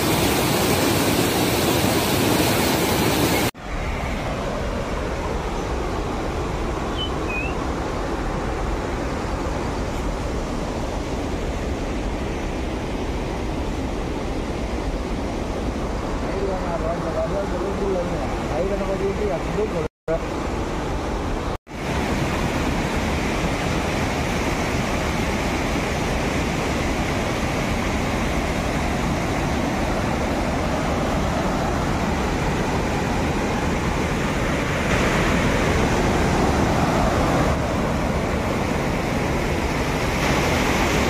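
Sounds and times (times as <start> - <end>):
water rushing over a weir: 0.0 - 41.0.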